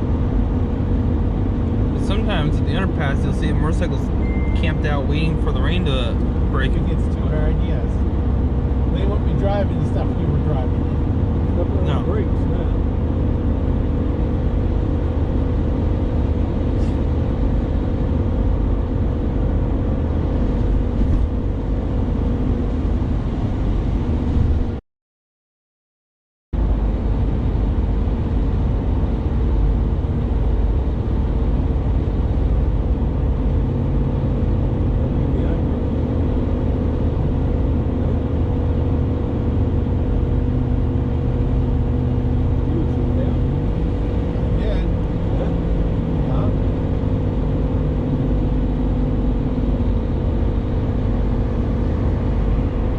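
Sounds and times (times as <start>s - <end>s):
engine hum: 0.0s - 24.8s, 26.6s - 52.9s
vehicle road noise at highway speed: 0.0s - 24.8s, 26.6s - 52.9s.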